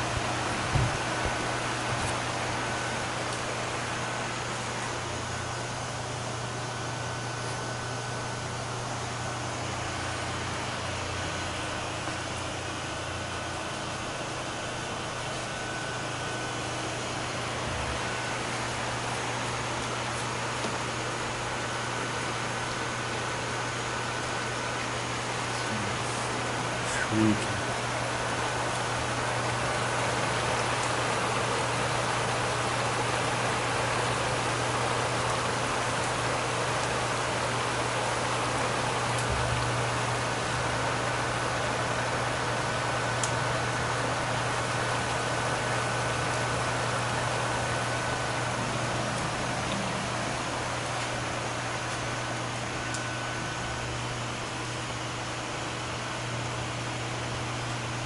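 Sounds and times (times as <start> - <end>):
constant hiss: 0.0 - 56.2
faint high whine: 0.0 - 58.0
mechanical hum: 0.0 - 58.0.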